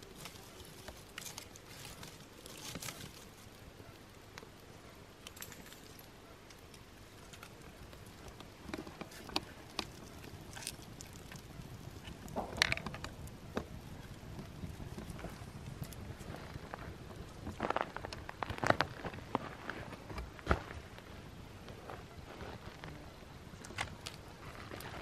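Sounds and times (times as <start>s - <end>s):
campfire crackling and snapping: 0.0s - 25.0s.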